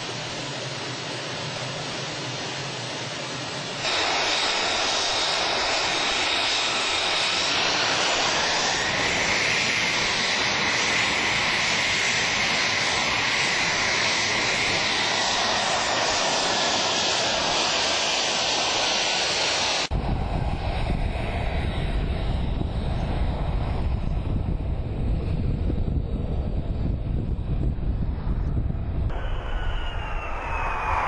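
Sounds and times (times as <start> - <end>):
deep jet rumble: 0.0 - 31.0
jet engine whine: 0.0 - 31.0.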